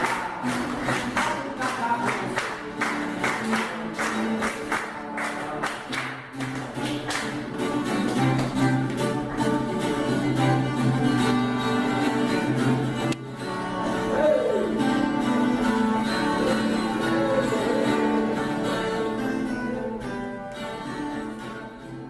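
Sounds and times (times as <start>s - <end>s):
plucked guitar: 0.0s - 22.0s.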